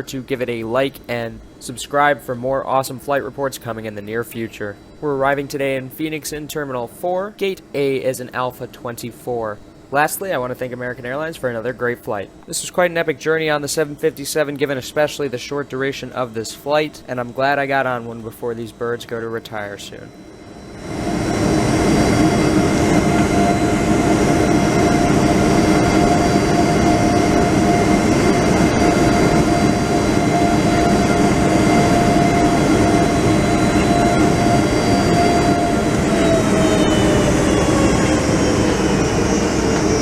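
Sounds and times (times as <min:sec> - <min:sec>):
jet engine cabin roar and whine: 0:00.0 - 0:40.0.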